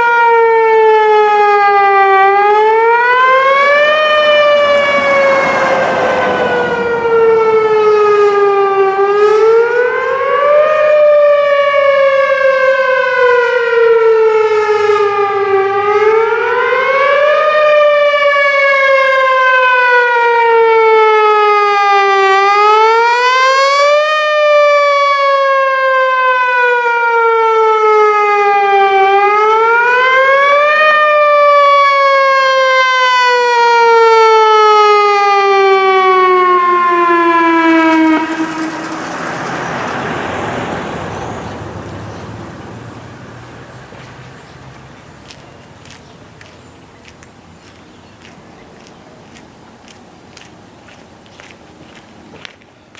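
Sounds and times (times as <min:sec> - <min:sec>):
tornado warning siren rising and falling: 0:00.0 - 0:45.3.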